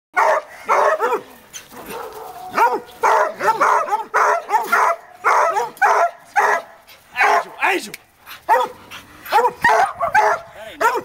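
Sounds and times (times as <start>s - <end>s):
dog baying barks: 0.2s - 7.6s, 8.3s - 11.0s.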